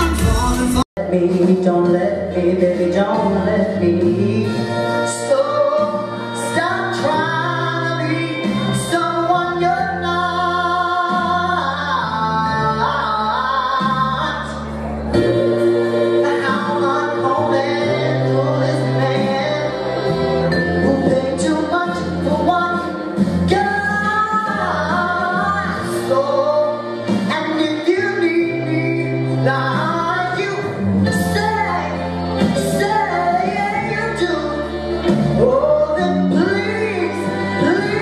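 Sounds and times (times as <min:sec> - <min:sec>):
solo voice singing: 0:00.0 - 0:38.0.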